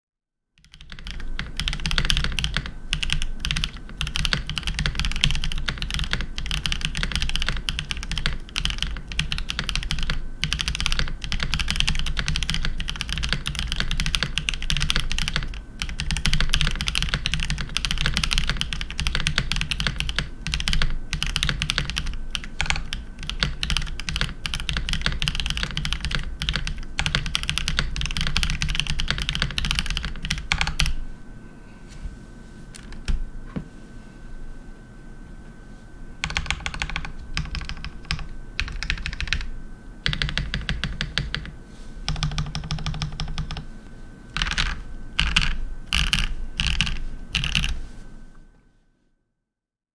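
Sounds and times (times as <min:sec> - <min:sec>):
mechanical keyboard typing: 0:00.6 - 0:31.0, 0:36.2 - 0:43.7, 0:44.4 - 0:47.8.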